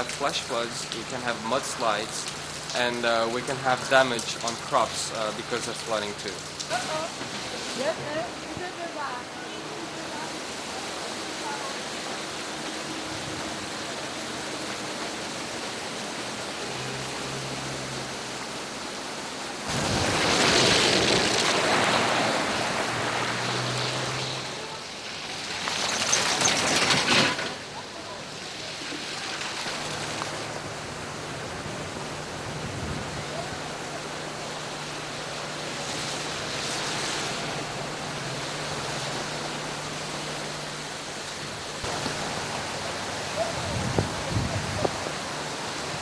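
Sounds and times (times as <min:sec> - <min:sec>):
rushing wind and water: 0:00.0 - 0:46.0.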